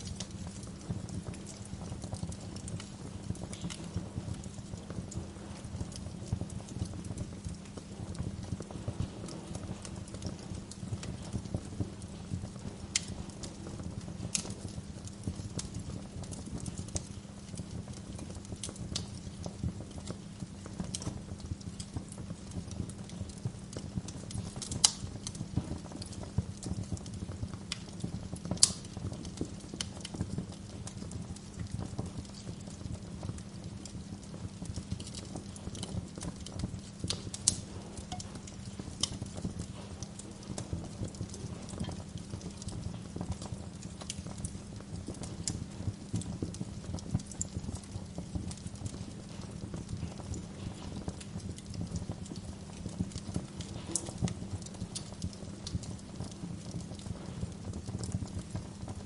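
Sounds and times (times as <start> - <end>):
sharp fire pops: 0.0 - 59.0
wood fire crackling: 0.0 - 59.0.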